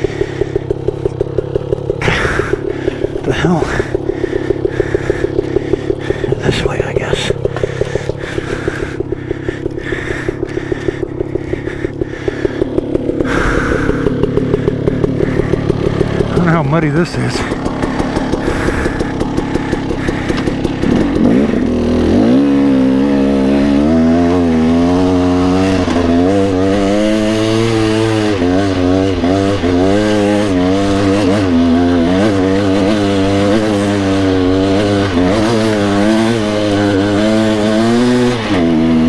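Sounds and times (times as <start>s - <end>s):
two-stroke motorcycle engine revving: 0.0s - 39.0s.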